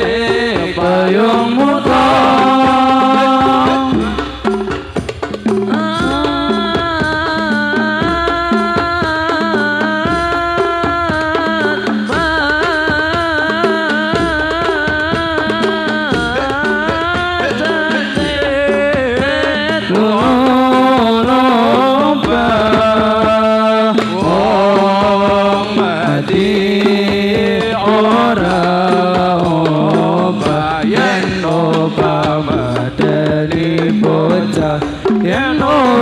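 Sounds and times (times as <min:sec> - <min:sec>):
hand-struck frame drums: 0:00.0 - 0:36.0
men singing devotional song: 0:00.0 - 0:36.0.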